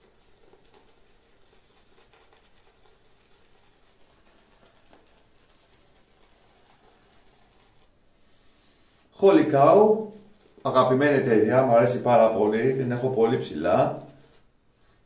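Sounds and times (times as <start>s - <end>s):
shaving brush rubbing on soap: 0.0s - 7.9s, 8.6s - 14.5s.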